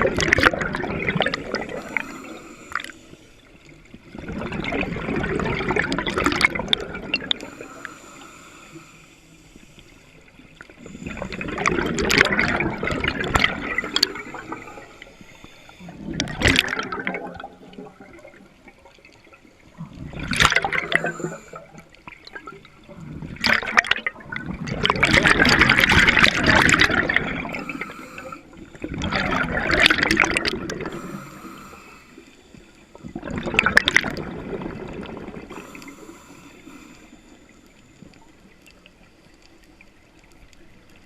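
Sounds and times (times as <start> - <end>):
exhaled air bubbling underwater: 0.0 - 41.0.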